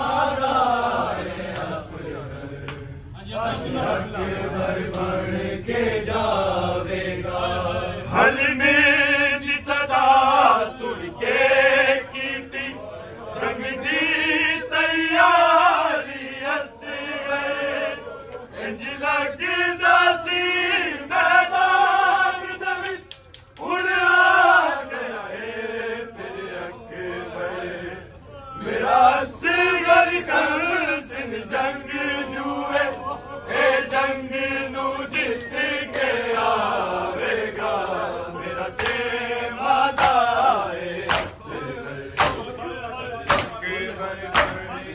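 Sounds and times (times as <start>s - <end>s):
men singing unaccompanied lament: 0.0s - 44.9s.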